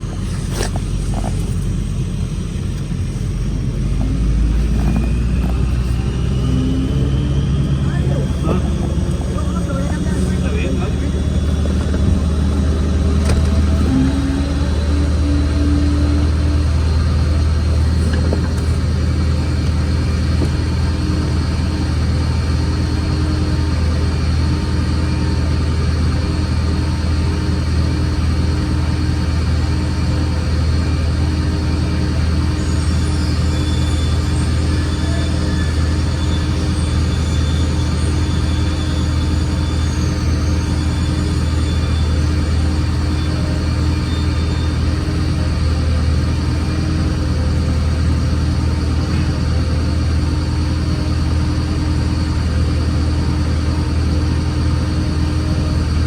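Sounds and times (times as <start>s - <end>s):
motor vehicle rumble: 0.0s - 56.0s.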